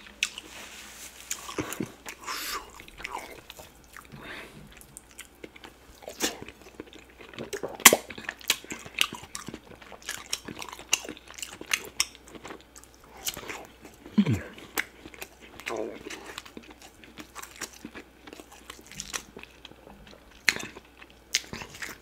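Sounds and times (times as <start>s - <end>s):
wet chewing and lip smacking: 0.0s - 0.5s, 1.2s - 22.0s.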